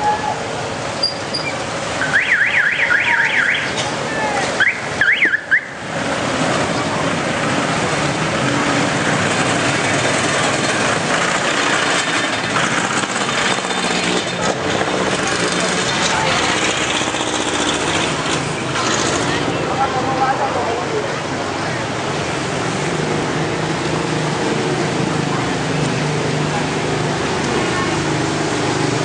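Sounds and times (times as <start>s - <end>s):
steady rushing noise: 5.6s - 29.0s.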